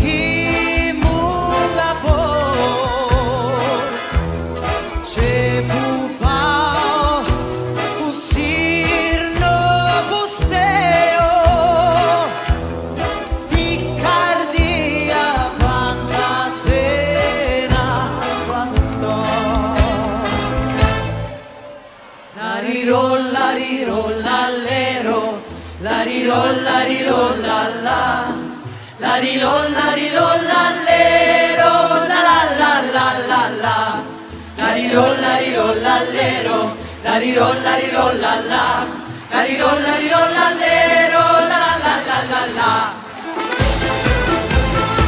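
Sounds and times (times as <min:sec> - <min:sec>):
singing voices: 0:00.0 - 0:45.0.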